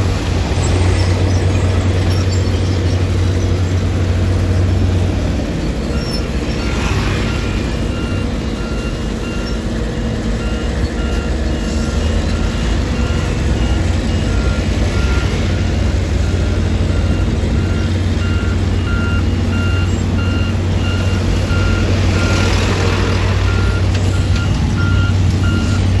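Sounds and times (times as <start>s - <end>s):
diesel engine running: 0.0s - 26.0s
reversing alarm beeping: 2.1s - 25.9s.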